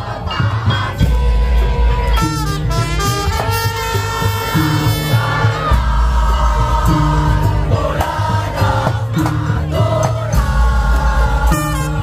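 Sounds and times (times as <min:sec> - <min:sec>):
heavy repeating low beat: 0:00.0 - 0:12.0
percussion ensemble playing loudly: 0:00.0 - 0:12.0
sustained melody line: 0:00.0 - 0:12.0.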